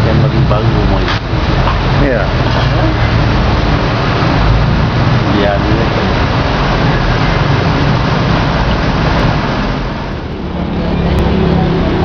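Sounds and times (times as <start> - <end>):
street traffic noise: 0.0 - 12.0
vehicle engine running: 0.0 - 12.0.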